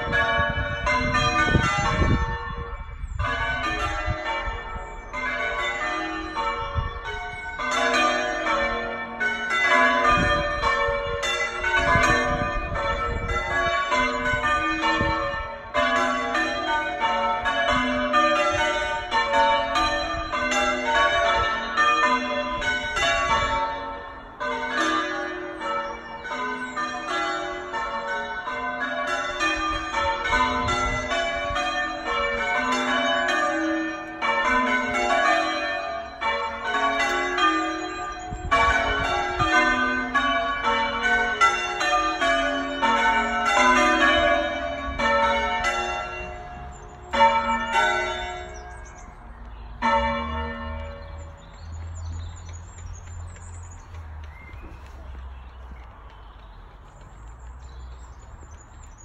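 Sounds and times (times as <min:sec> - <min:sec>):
church bells ringing: 0:00.0 - 0:52.7.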